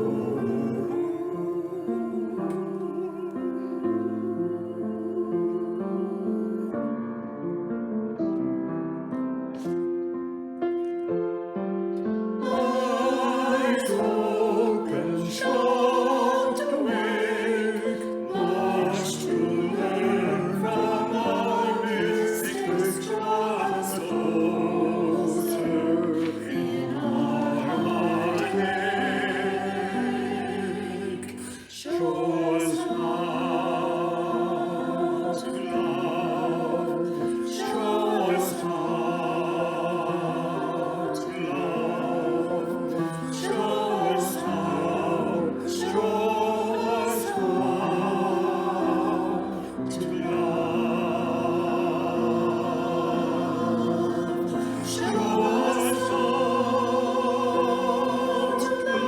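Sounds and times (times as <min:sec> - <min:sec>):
choir singing sacred music: 0:00.0 - 0:10.0, 0:11.5 - 0:59.0.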